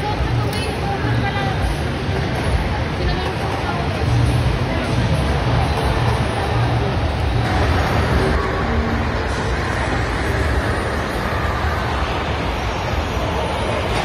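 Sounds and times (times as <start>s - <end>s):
indoor hall background rumble: 0.0s - 14.0s.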